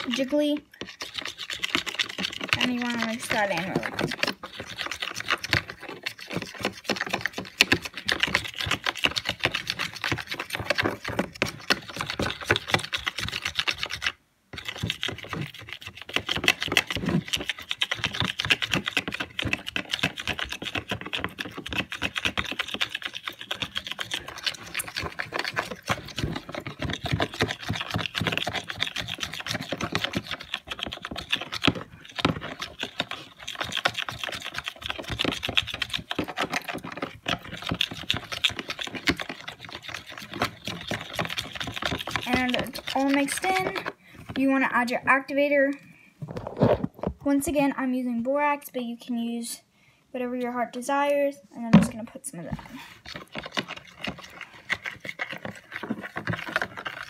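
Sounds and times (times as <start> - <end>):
slime stirred in a bowl: 0.0 - 49.4, 50.2 - 57.0.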